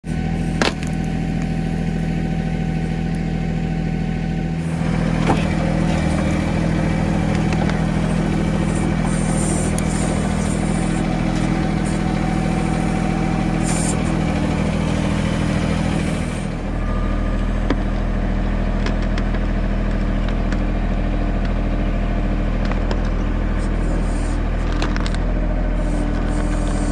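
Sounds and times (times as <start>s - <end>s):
diesel tractor engine running: 0.0s - 26.9s.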